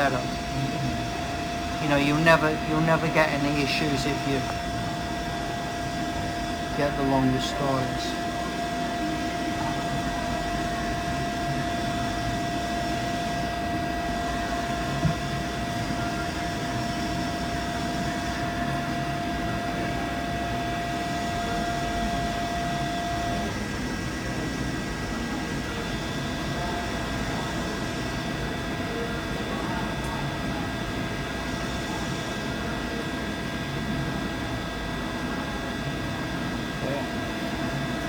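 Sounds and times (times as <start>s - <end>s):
milling machine humming: 0.0s - 38.0s
steady whine: 0.0s - 38.0s.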